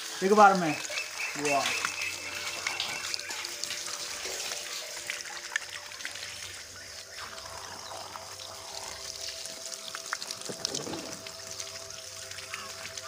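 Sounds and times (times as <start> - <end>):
water splashing onto concrete: 0.0 - 13.0.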